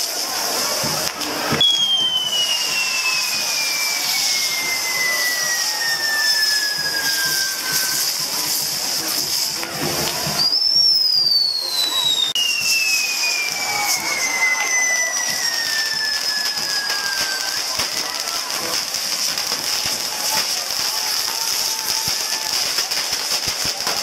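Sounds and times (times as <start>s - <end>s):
falling firework whistles: 0.0s - 24.0s
fireworks hissing: 0.0s - 24.0s.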